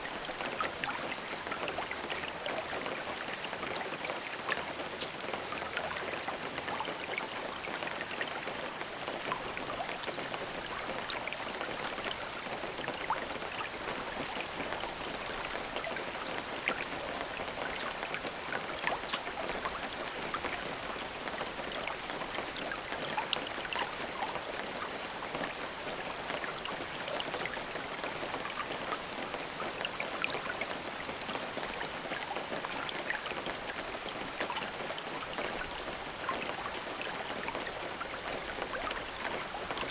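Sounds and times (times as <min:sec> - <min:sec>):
steady rain falling: 0:00.0 - 0:39.9
raindrop ticks: 0:00.1 - 0:39.9.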